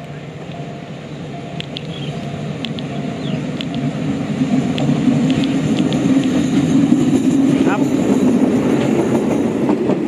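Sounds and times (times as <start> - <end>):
locomotive engine rumble: 0.0 - 10.0.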